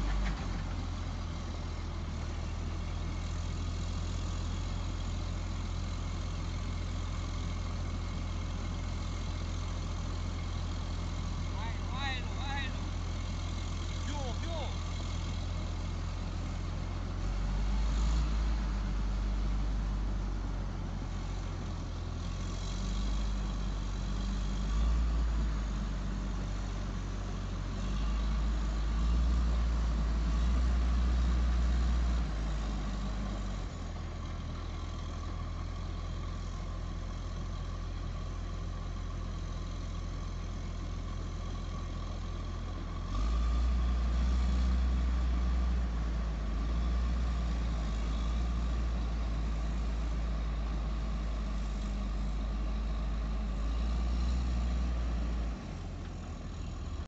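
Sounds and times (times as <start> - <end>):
distant diesel engine rumble: 0.0 - 57.0.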